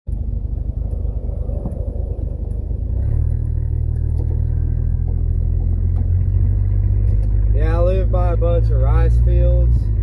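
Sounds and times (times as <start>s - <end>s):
car engine rumbling: 0.1s - 10.0s.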